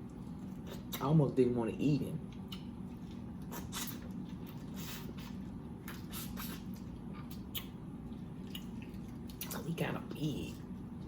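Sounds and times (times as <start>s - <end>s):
chewing with wet smacks: 0.0s - 1.3s, 2.2s - 11.0s
steady low hum: 0.0s - 11.0s.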